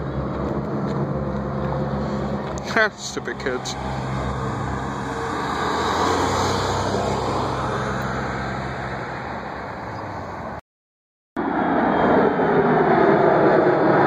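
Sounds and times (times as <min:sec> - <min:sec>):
steady engine noise: 0:00.0 - 0:10.6, 0:11.4 - 0:14.0.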